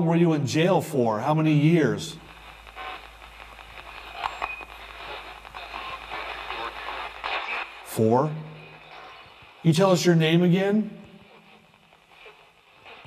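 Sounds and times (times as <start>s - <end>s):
static hiss: 0.0s - 13.0s
chopped radio broadcast fragments: 0.5s - 13.0s.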